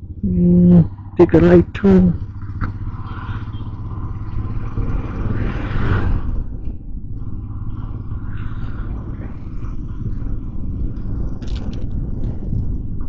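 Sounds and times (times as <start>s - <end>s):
motorcycle engine rumble: 0.0s - 13.0s
wind on microphone: 2.2s - 13.0s.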